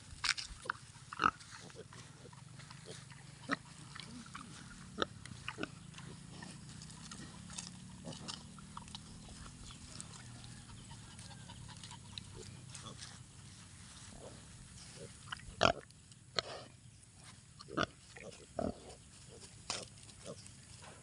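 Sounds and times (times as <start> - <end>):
pigs chewing and rooting: 0.0 - 16.5, 17.2 - 21.0
pigs grunting: 0.6 - 13.4, 14.0 - 16.9, 17.6 - 21.0.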